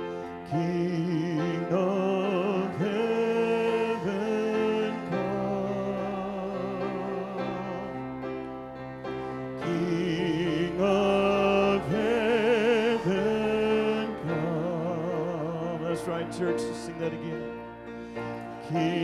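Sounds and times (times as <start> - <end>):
church choir singing: 0.0 - 19.0
instrumental accompaniment: 0.0 - 19.0.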